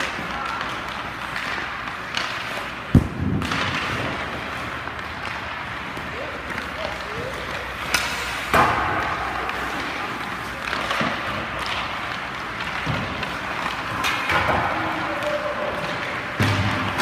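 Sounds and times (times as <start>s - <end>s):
skates scraping on ice: 0.0s - 17.0s
stick striking puck: 0.0s - 17.0s.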